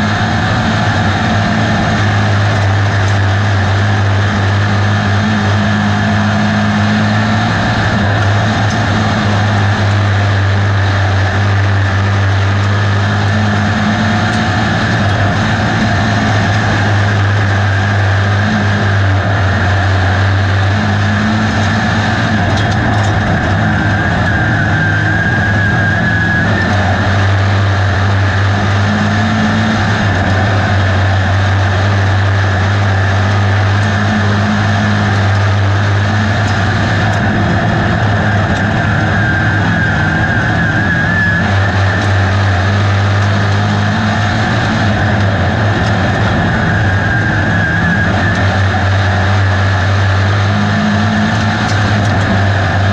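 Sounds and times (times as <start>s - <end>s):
race car engine drone: 0.0s - 52.9s.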